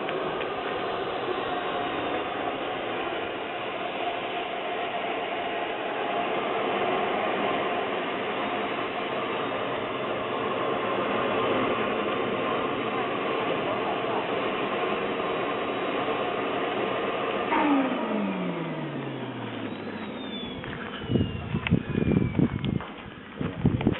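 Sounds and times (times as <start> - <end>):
jet turbine engine roaring: 0.0 - 23.9
whine falling in pitch: 0.0 - 23.9.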